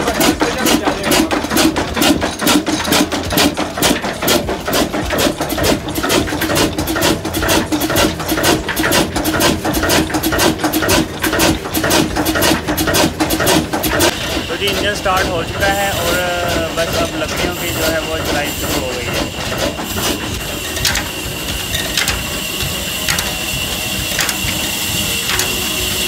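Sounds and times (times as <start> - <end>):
stationary engine beating: 0.0 - 26.0
steady hum: 0.0 - 26.0.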